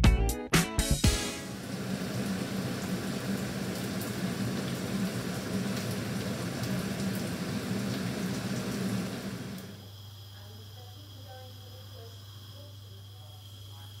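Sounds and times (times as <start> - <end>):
constant hiss: 1.2 - 14.0.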